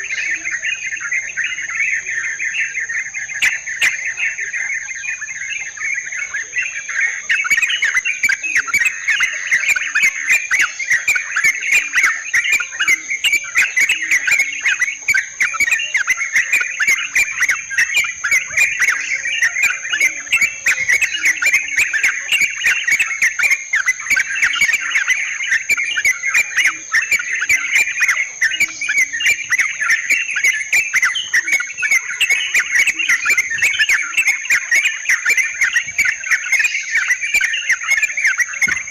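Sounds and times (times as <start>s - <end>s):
bulbuls chattering: 0.0s - 38.9s.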